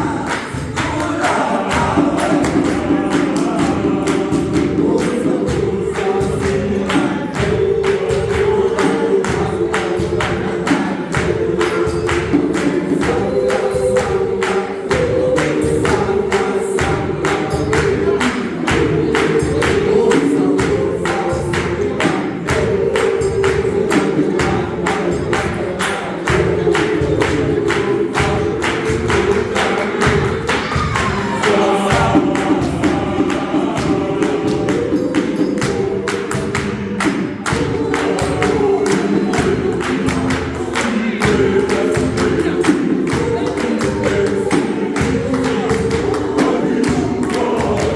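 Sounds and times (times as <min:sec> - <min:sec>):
choir singing in harmony: 0:00.0 - 0:47.9
clapping percussive beat: 0:00.0 - 0:47.9.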